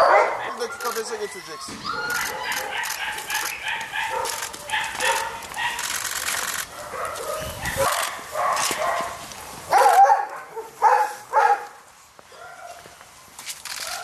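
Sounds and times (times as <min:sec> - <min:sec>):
dogs barking: 0:00.0 - 0:01.2, 0:01.9 - 0:13.0.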